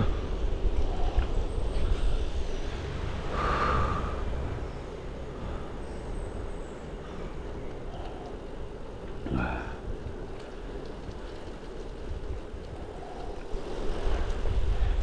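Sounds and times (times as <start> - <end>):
bicycle road noise on wet road: 0.0 - 15.0
wind rushing over microphone: 0.0 - 15.0.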